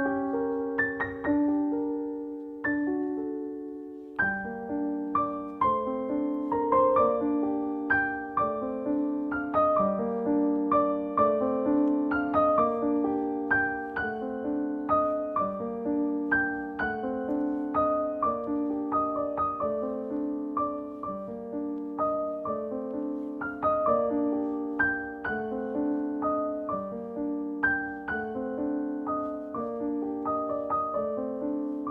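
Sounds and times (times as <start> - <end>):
soft piano melody: 0.0 - 31.9.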